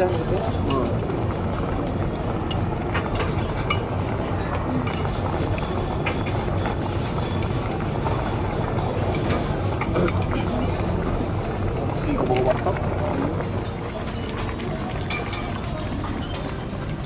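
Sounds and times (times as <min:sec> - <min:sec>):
restaurant background rumble: 0:00.0 - 0:17.0
utensils clinking on dishes: 0:00.0 - 0:17.0.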